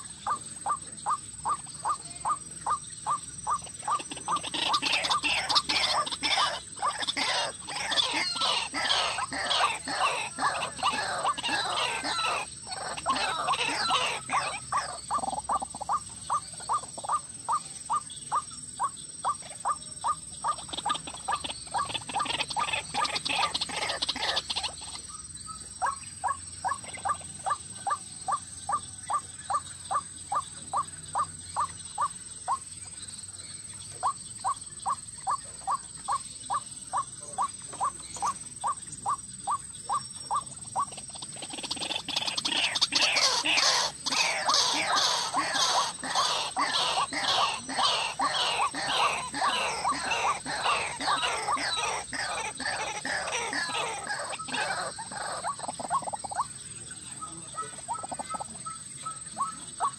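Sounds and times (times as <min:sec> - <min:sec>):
rough croaking bird calls: 0:00.0 - 0:59.9.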